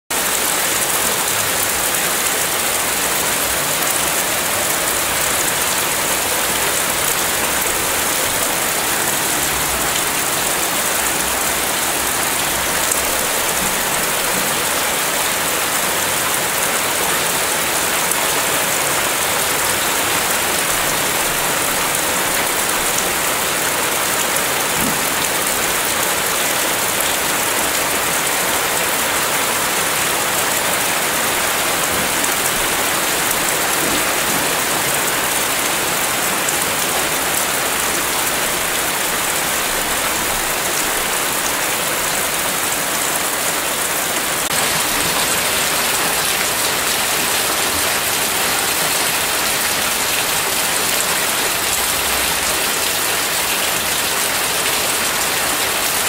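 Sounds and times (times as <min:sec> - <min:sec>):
steady rain falling: 0:00.1 - 0:56.0.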